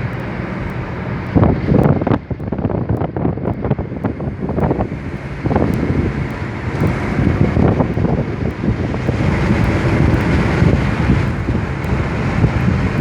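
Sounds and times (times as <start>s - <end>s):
car engine and road rumble: 0.0s - 13.0s
wind buffeting microphone: 0.0s - 13.0s.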